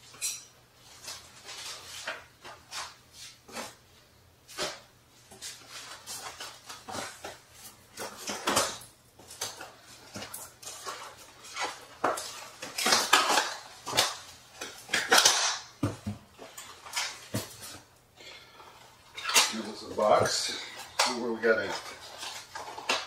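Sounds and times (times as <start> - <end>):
plastic wrap and foam rustling: 0.8 - 23.0.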